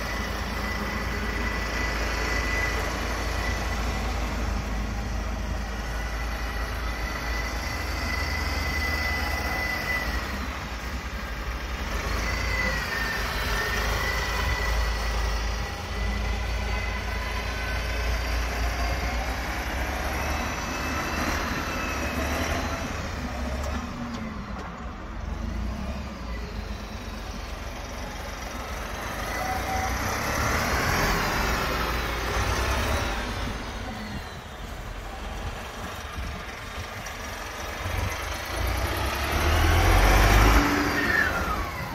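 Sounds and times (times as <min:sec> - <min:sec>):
thin engine whine: 0:00.0 - 0:41.9
tractor diesel engine running: 0:00.0 - 0:41.9.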